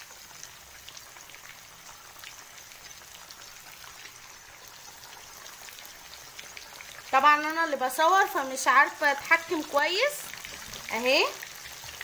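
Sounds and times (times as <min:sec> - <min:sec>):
liver sizzling in hot oil: 0:00.0 - 0:12.0.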